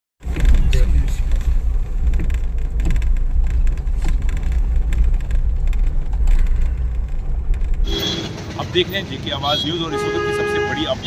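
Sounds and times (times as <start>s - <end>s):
vehicle rumble: 0.2s - 11.0s.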